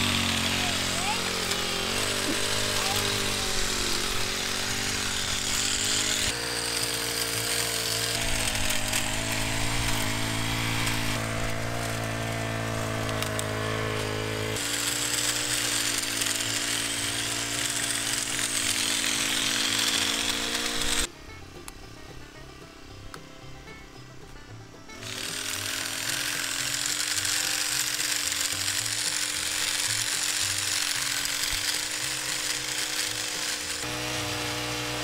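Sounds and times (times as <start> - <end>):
hedge trimmer petrol engine: 0.0 - 35.0.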